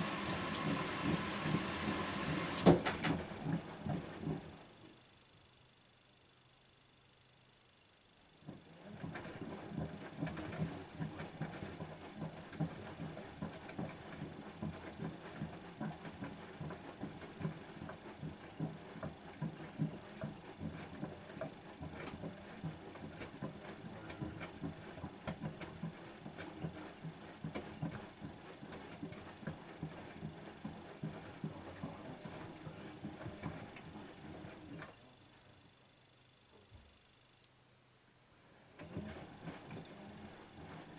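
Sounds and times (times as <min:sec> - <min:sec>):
washing machine drum tumbling laundry: 0:00.0 - 0:04.6, 0:08.5 - 0:34.8, 0:38.8 - 0:40.9.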